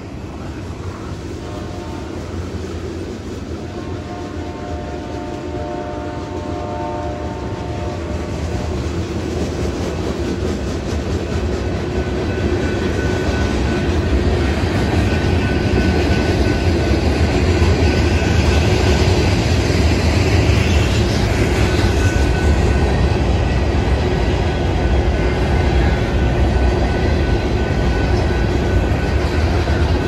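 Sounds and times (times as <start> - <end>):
train wheels clattering on rail: 0.0 - 30.0.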